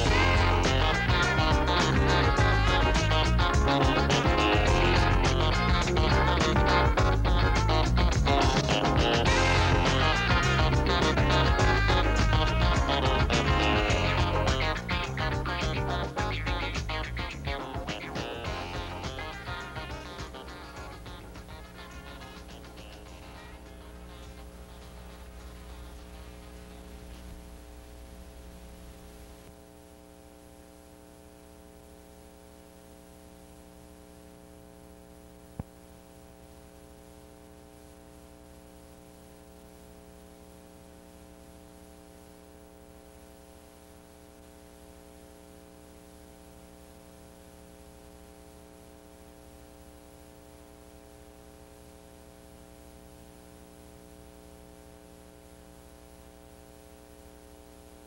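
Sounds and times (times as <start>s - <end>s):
electrical mains hum: 0.0s - 58.0s
faint hiss: 0.0s - 58.0s.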